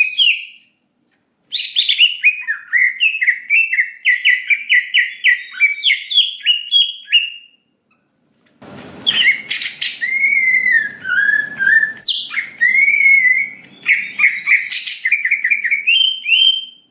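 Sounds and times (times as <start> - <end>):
bird singing: 1.5 - 7.6, 9.0 - 16.9.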